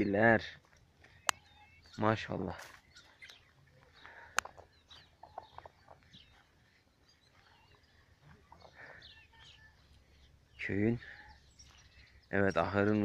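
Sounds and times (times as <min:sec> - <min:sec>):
chickens clucking: 0:01.0 - 0:13.0
chicks peeping: 0:01.0 - 0:13.0.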